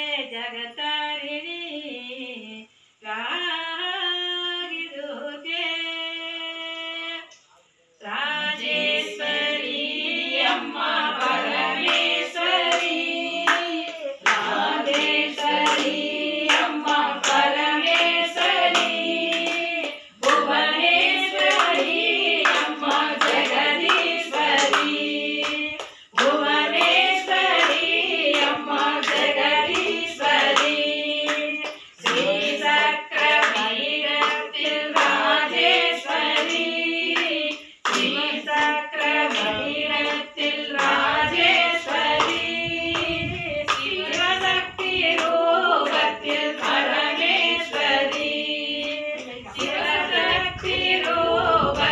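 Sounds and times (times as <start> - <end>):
women singing devotional song: 0.0 - 51.9
hands clapping in time: 10.4 - 51.9.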